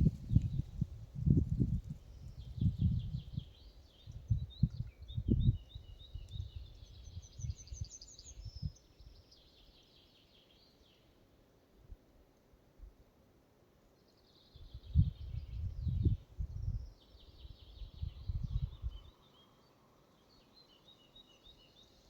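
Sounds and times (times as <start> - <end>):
songbirds trilling and chirping: 1.4 - 11.3, 13.8 - 22.0.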